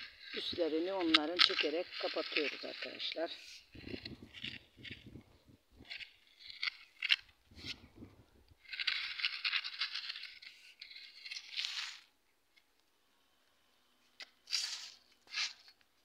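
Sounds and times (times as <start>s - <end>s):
hoe scraping through dry soil: 0.0s - 12.1s, 14.5s - 15.7s.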